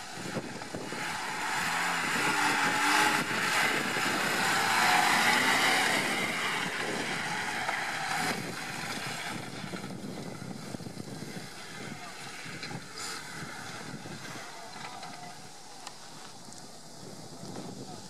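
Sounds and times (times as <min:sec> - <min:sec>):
off-road vehicle engine running hard: 0:00.0 - 0:18.0.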